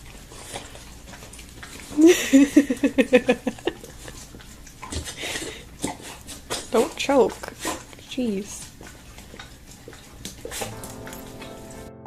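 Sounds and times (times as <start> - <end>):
dog grunting while eating: 0.0 - 11.6.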